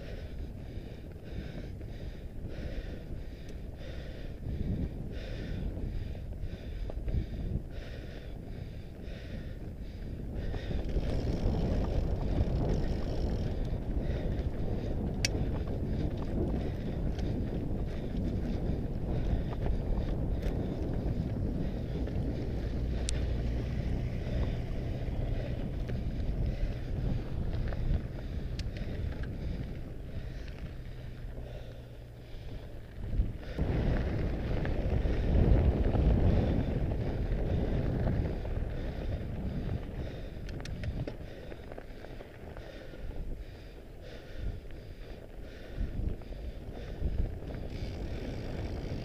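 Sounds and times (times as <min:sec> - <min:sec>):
bike tyres rolling over gravel: 0:00.0 - 0:49.0
wind rushing over microphone: 0:00.0 - 0:49.0.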